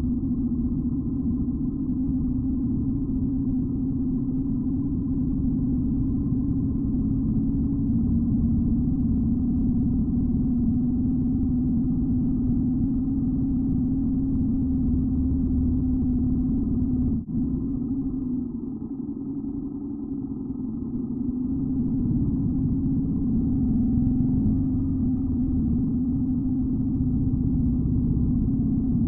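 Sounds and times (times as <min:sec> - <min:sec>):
motorcycle engine drone: 0:00.0 - 0:29.0.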